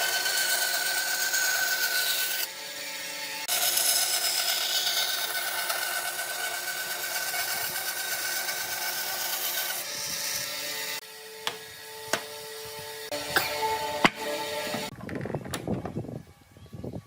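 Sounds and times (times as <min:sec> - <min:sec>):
power tool cutting wood: 0:00.0 - 0:15.7.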